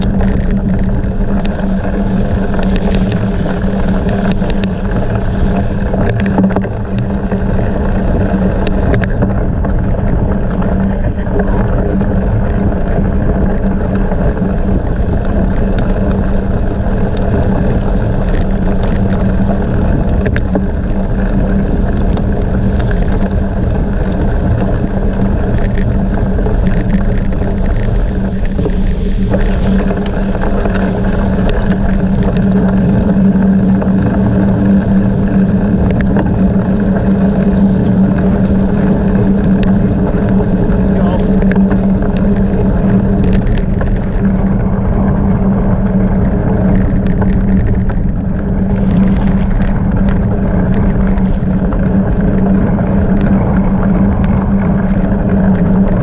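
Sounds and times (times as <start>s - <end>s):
bike tyre rumble: 0.0s - 56.0s
constant low hum: 0.0s - 56.0s
wind noise on microphone: 0.0s - 56.0s.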